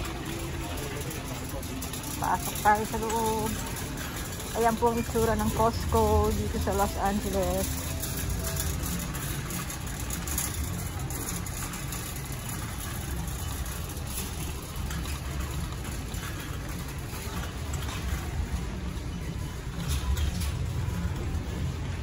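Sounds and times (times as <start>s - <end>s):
shopping cart wheels rolling on concrete: 0.0s - 22.0s
store hum: 0.0s - 22.0s.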